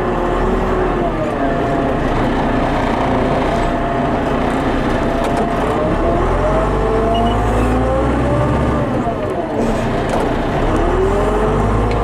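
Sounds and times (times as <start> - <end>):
loader diesel engine running: 0.0 - 12.0.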